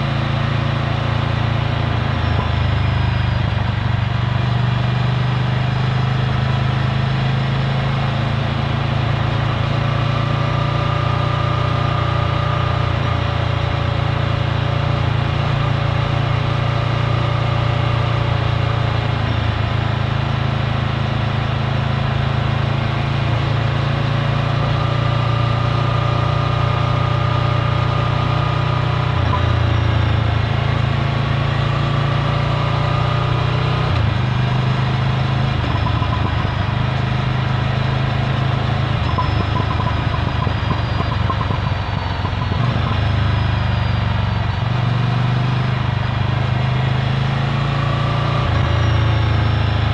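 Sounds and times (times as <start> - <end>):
motorcycle engine running: 0.0 - 47.6.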